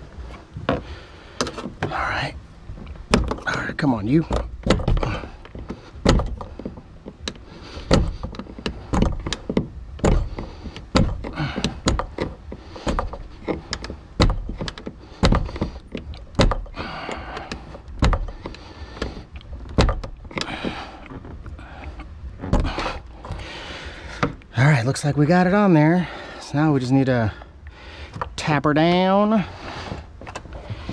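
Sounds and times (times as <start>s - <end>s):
plastic and metal parts clunking: 0.2s - 2.0s, 2.7s - 24.5s, 29.6s - 30.9s.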